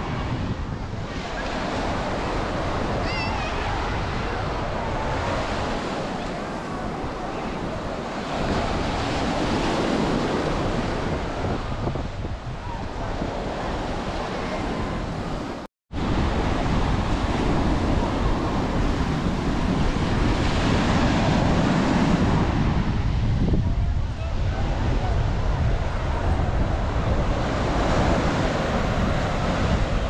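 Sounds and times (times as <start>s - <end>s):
surf washing on sandy beach: 0.0s - 30.0s
wind buffeting microphone: 0.0s - 30.0s.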